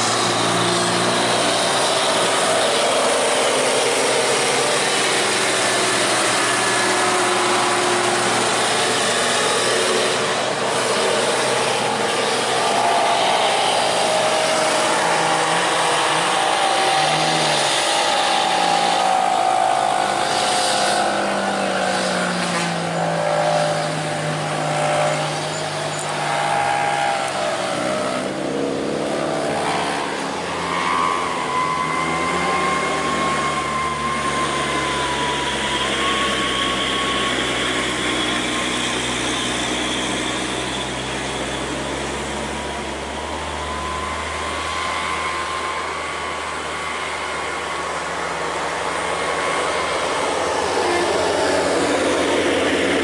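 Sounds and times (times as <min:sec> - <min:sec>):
truck diesel engine labouring: 0:00.0 - 0:53.0.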